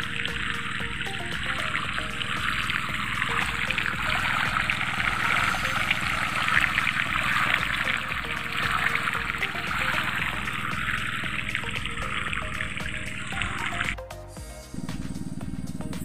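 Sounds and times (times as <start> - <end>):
water gushing and splashing: 0.0 - 14.0.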